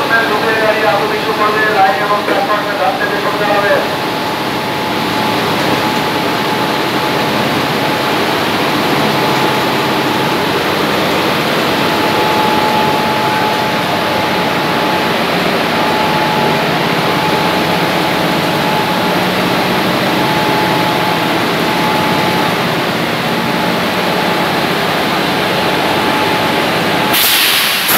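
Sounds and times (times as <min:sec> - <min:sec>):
constant whine: 0:00.0 - 0:27.2
locomotive cooling blowers running: 0:00.0 - 0:27.9.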